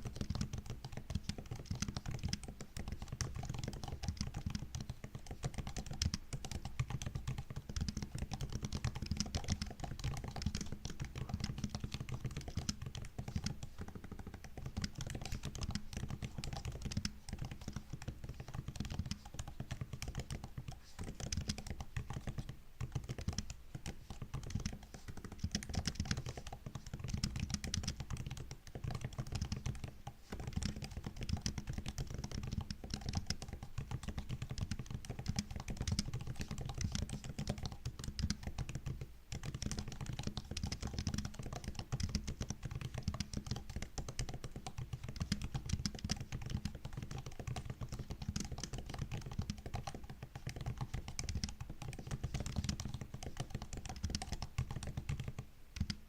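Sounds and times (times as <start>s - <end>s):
laptop keyboard typing: 0.0s - 56.0s.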